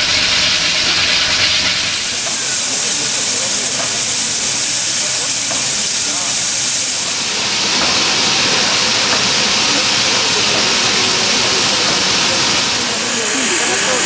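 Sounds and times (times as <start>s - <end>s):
steam hissing from locomotive: 0.0s - 14.0s.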